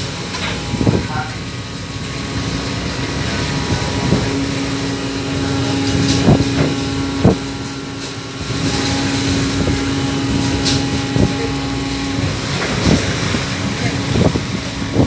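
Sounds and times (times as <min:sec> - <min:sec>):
boat engine humming: 0:00.0 - 0:15.0
water noise: 0:00.0 - 0:15.0
wind: 0:00.0 - 0:15.0.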